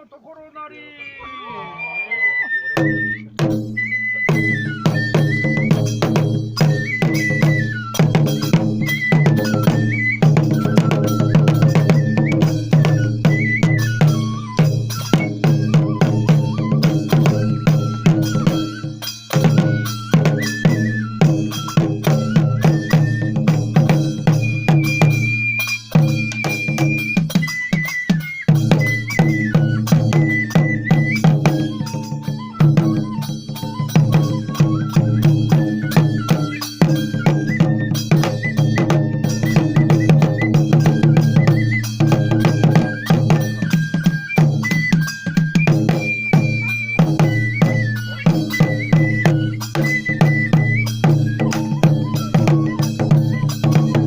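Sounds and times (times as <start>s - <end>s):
high bamboo flute: 0.6s - 54.0s
metallic clanking percussion: 2.8s - 54.0s.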